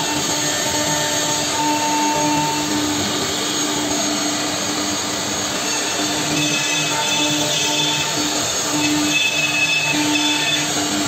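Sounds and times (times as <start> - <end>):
cnc router whirring: 0.0 - 11.0.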